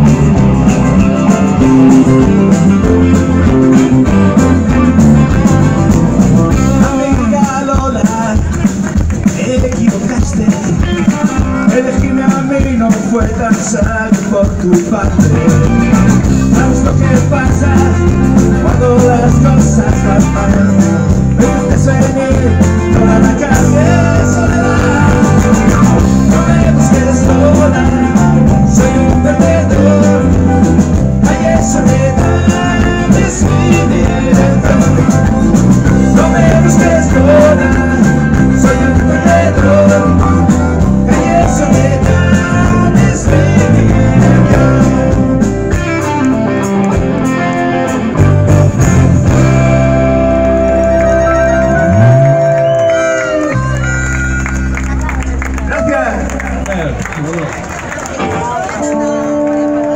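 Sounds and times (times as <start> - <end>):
harmonica lead line: 0.0 - 8.0, 15.1 - 55.6
rock and roll band playing: 0.0 - 59.9.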